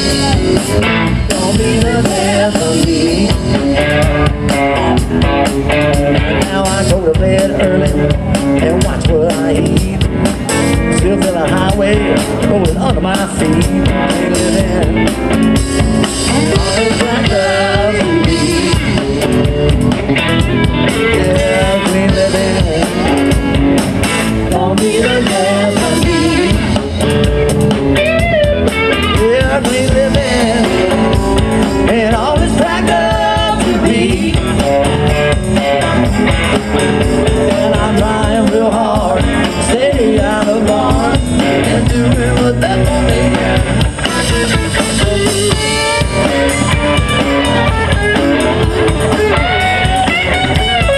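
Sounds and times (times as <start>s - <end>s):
drum kit: 0.0s - 50.9s
electric bass: 0.0s - 50.9s
electric guitars: 0.0s - 50.9s
lead guitar bending pitch: 0.0s - 50.9s.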